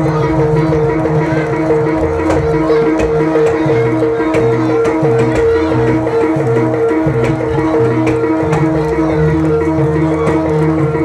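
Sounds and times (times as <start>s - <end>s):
hand drums: 0.0s - 11.0s
repeating ringing pitched notes: 0.0s - 11.0s.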